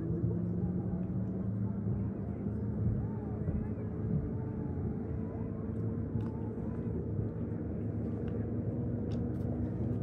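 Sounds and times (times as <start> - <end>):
motorboat engines droning: 0.0 - 10.0.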